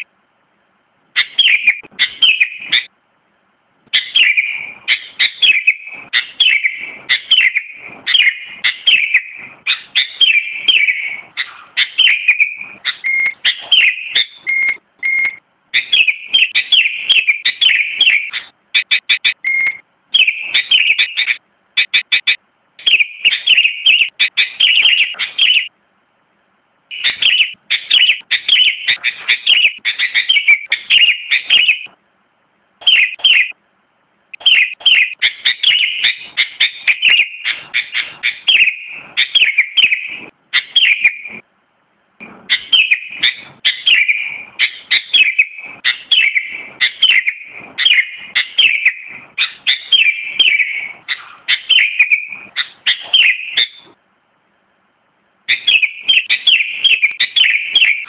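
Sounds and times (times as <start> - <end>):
bird chirping song: 1.1 - 3.0, 3.9 - 25.8, 26.9 - 32.0, 32.8 - 33.6, 34.3 - 41.4, 42.2 - 54.0, 55.5 - 58.0.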